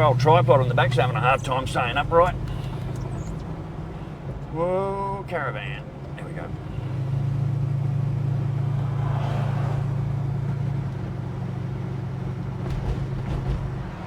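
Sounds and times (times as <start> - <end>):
car engine droning: 0.0 - 14.0.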